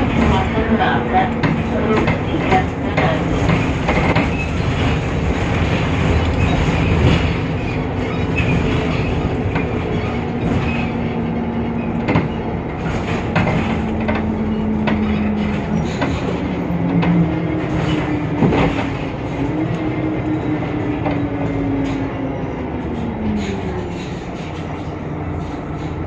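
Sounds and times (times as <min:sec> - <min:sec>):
bus engine droning whine: 0:00.0 - 0:26.0
road rumble: 0:00.0 - 0:26.0.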